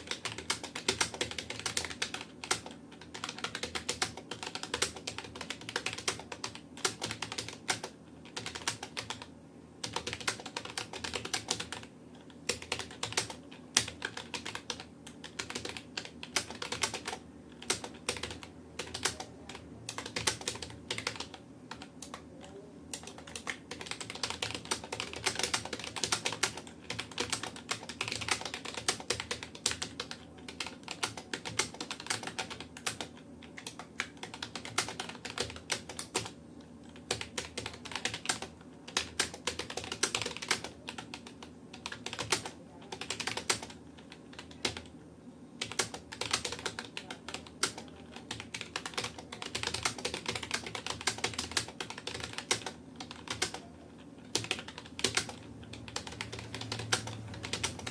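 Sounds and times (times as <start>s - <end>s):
fast typing on keyboard: 0.0s - 45.0s, 45.6s - 57.9s.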